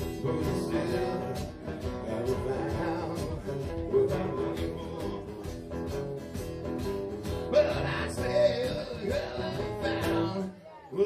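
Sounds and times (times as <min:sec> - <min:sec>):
live blues band music: 0:00.0 - 0:10.6.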